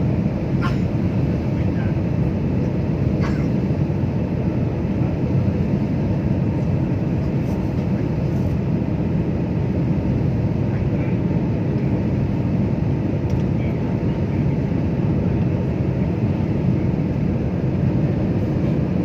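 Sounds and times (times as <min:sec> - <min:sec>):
airliner cabin noise: 0:00.0 - 0:19.0.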